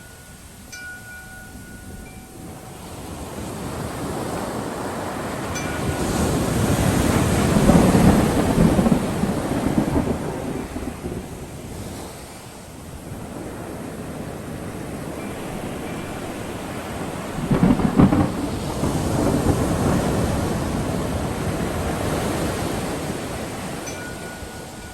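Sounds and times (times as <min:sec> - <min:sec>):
steady rain: 0:01.5 - 0:24.9
thunder rumbling and cracking: 0:03.2 - 0:23.9.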